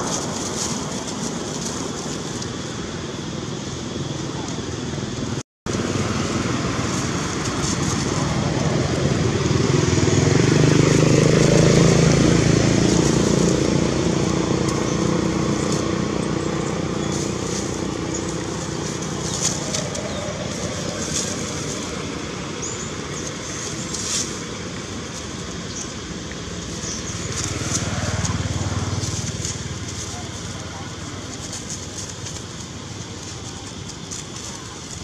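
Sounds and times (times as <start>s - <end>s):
vehicle engine passing by: 5.7s - 35.0s.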